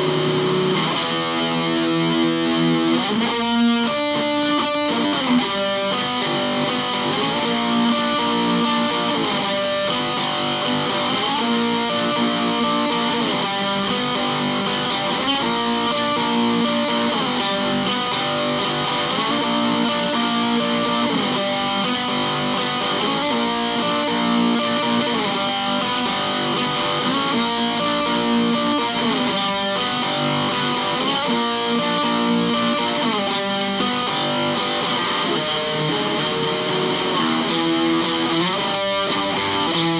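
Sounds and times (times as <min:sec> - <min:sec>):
guitar sliding notes: 0:00.0 - 0:39.9
guitar strumming: 0:00.0 - 0:39.9.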